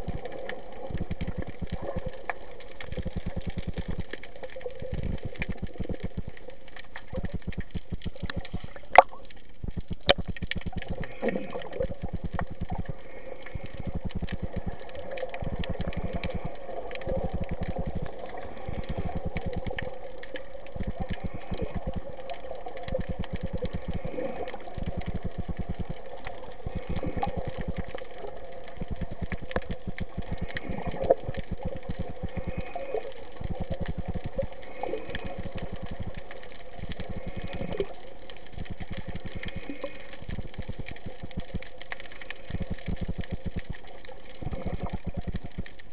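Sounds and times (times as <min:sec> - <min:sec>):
fine underwater crackling: 0:00.0 - 0:45.9
muffled underwater rush: 0:00.0 - 0:45.9
sharp clicks: 0:00.0 - 0:45.9.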